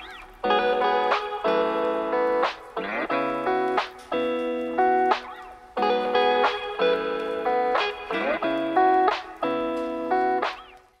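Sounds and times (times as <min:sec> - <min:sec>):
guitar chords music: 0:00.0 - 0:11.0.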